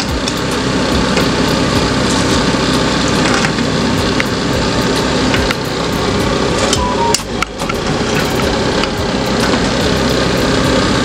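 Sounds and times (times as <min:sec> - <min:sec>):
dough deep-frying in oil: 0:00.0 - 0:11.0.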